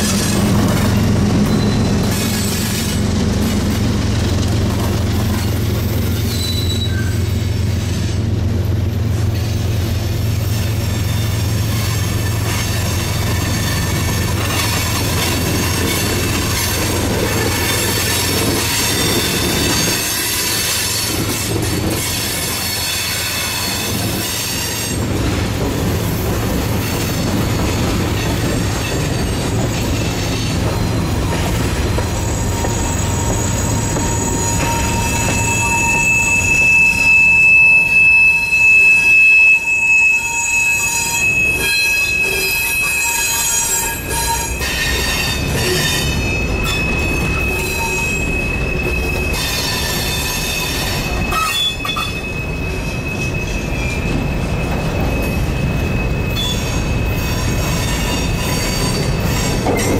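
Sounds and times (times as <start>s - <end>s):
freight train rumbling over rails: 0.0s - 59.9s
steel wheels squealing: 0.0s - 59.9s.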